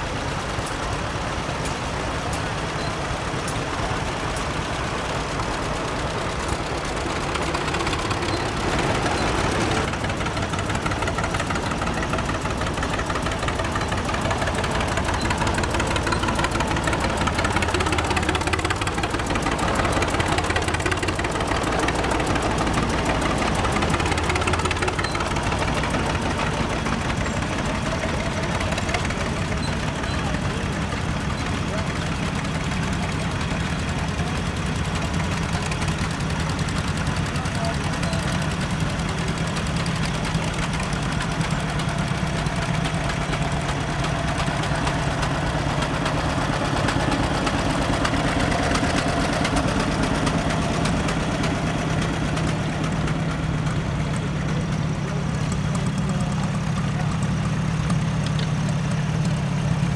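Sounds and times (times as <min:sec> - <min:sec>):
tractor engines running: 0:00.0 - 0:59.9.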